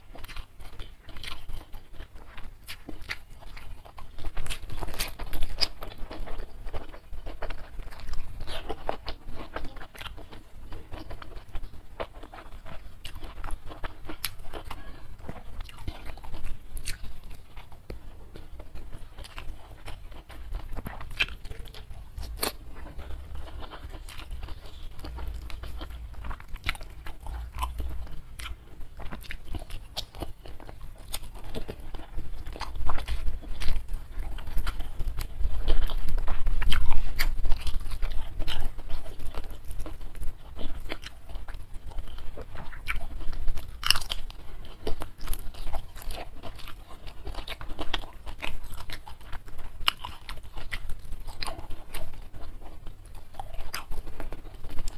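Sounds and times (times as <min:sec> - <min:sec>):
chewing crispy food: 0:00.0 - 0:54.9.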